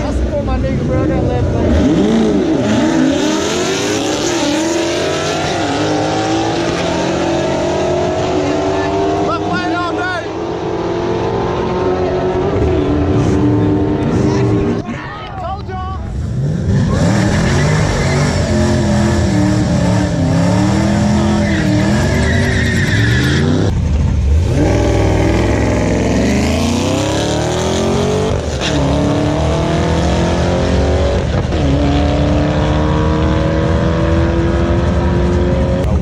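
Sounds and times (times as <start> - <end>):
drag car engine revving and accelerating: 0.0 - 14.8, 16.1 - 36.0.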